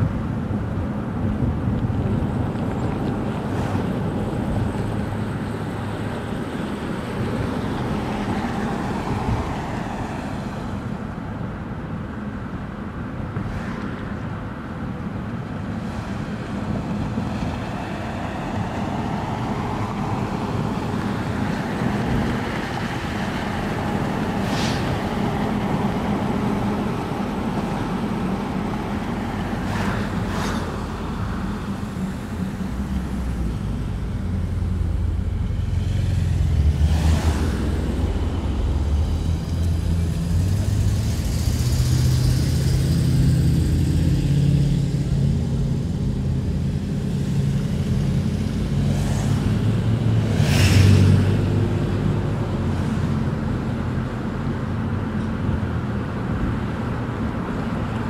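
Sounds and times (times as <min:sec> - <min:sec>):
car tyre engine and wind noise: 0:00.0 - 0:58.0.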